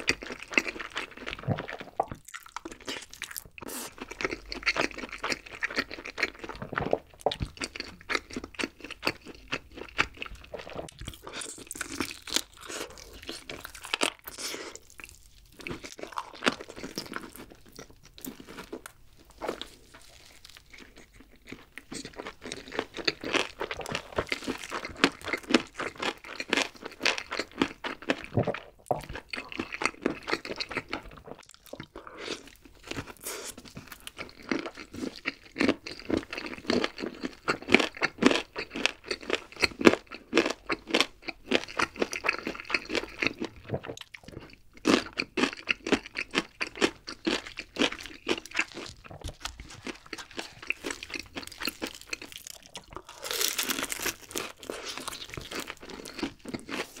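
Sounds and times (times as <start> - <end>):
crunchy chewing of fried chicken: 0.0 - 57.0.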